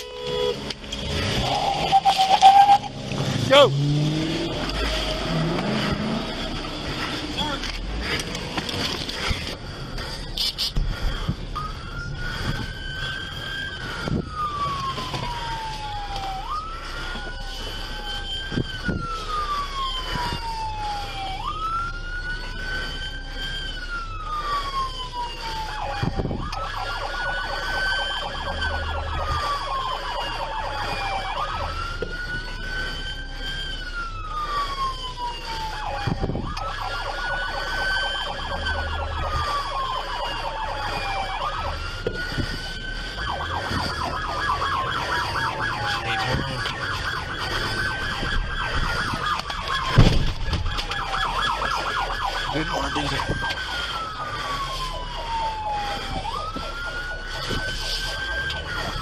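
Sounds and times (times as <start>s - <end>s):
fast pulsing siren: 0.0s - 59.0s
police siren wailing: 0.0s - 59.0s.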